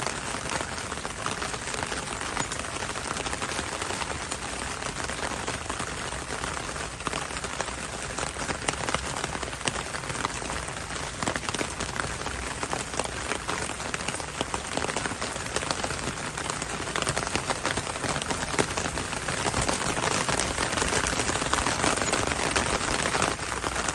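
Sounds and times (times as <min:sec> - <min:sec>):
rain tapping on window: 0:00.0 - 0:23.9.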